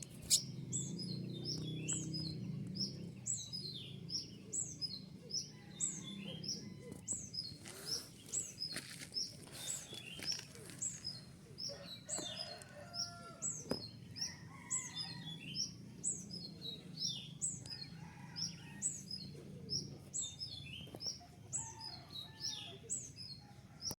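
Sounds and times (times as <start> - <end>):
sunbird chirping: 0.0 - 23.4.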